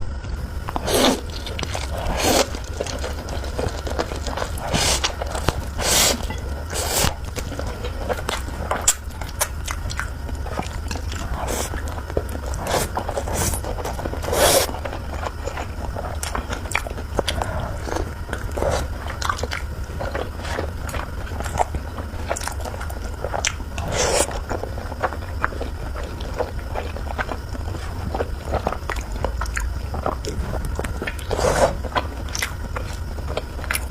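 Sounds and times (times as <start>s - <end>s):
steady low hum: 0.0s - 33.9s
slurping and chewing noodles: 0.4s - 33.9s.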